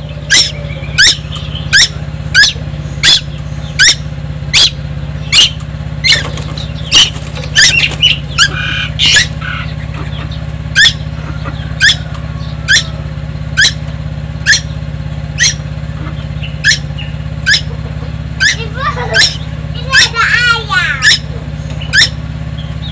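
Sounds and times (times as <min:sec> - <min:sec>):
steady low hum: 0:00.0 - 0:22.9
young bird calling: 0:00.0 - 0:22.9.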